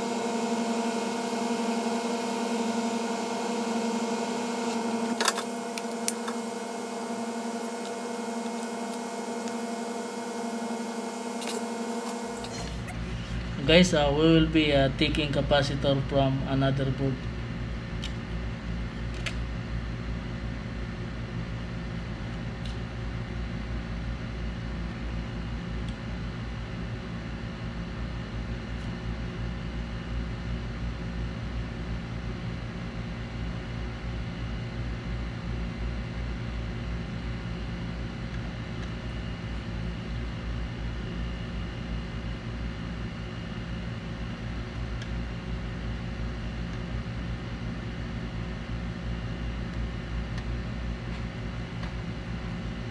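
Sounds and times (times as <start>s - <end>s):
fan humming: 0.0s - 52.9s.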